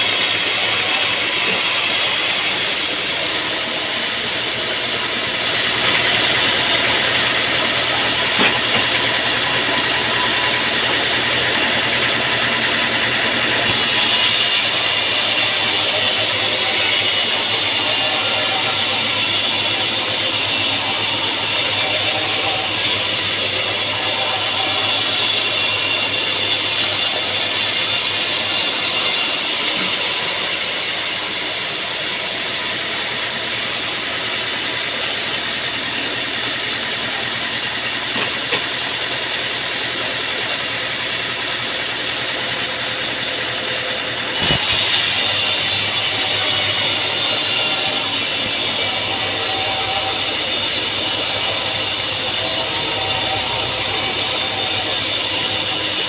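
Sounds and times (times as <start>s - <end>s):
sawmill machinery rattling: 0.0s - 56.0s.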